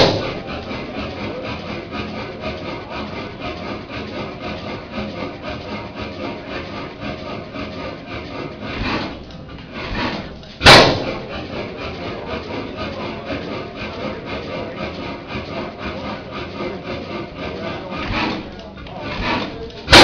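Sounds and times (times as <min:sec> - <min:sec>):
engine rasping clatter: 0:00.0 - 0:20.0.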